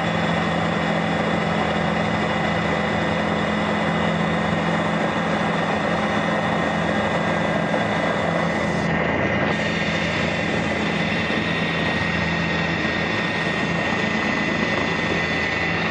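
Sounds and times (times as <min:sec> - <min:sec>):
helicopter engine and rotors: 0:00.0 - 0:15.9
high-pitched whine: 0:00.0 - 0:15.9.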